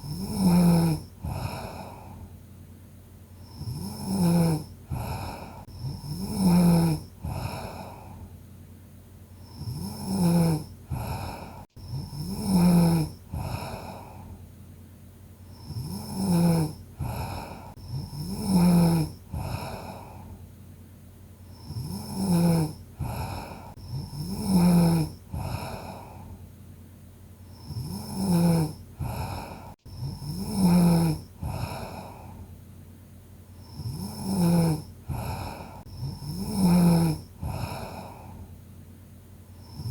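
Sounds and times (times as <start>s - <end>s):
person snoring: 0.0s - 2.3s, 3.4s - 8.3s, 9.4s - 14.4s, 15.4s - 20.4s, 21.4s - 26.4s, 27.4s - 32.5s, 33.6s - 38.5s, 39.5s - 39.9s.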